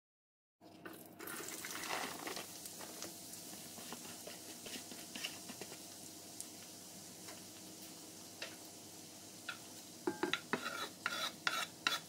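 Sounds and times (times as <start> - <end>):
vegetables sizzling in hot oil: 1.1 - 12.0.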